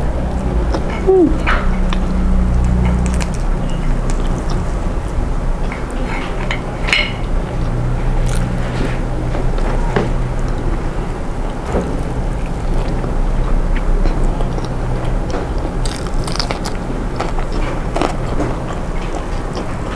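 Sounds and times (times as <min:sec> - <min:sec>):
low hum: 0:00.0 - 0:19.9
food crackles and clicks: 0:01.9 - 0:09.8, 0:11.5 - 0:19.9.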